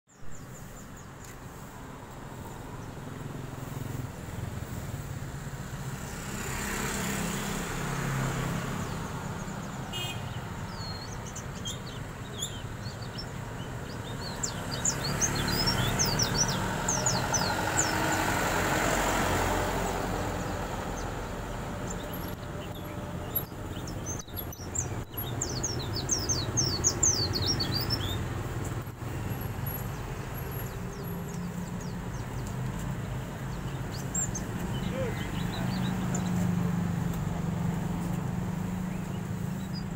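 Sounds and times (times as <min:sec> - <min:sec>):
road traffic passing: 0:00.1 - 0:39.9
songbirds twittering: 0:00.1 - 0:39.9.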